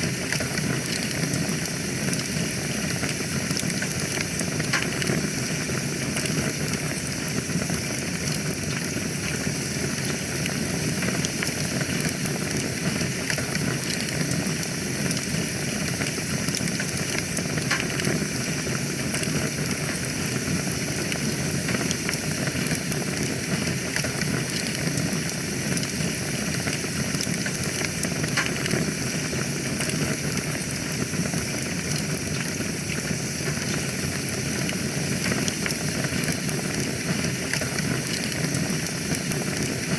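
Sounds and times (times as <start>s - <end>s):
fire crackles and pops: 0.0s - 39.9s
wood fire burning: 0.0s - 39.9s.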